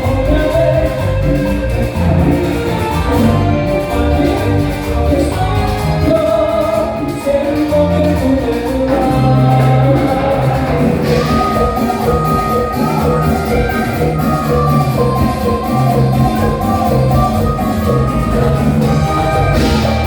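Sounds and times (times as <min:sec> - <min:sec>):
live cumbia band music: 0:00.0 - 0:20.0.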